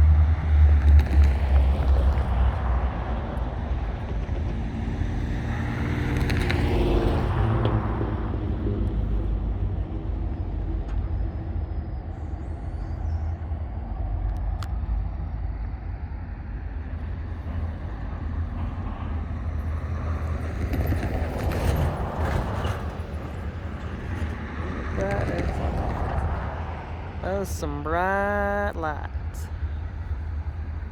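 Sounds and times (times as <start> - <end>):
locomotive rumbling: 0.0 - 30.9.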